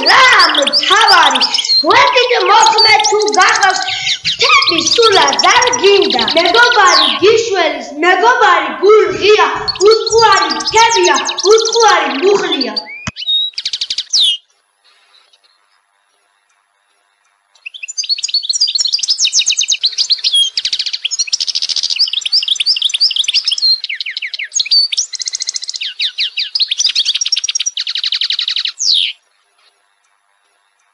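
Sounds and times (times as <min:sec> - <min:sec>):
goldfinch twittering song: 0:00.0 - 0:07.8, 0:08.4 - 0:29.2.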